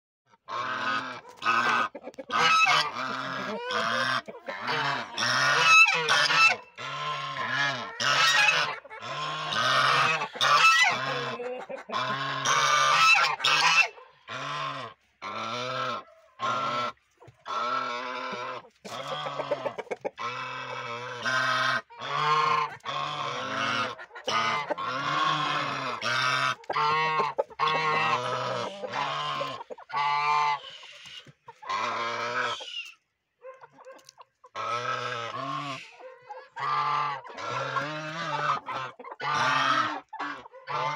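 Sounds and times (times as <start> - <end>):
geese honking: 0.3 - 40.9.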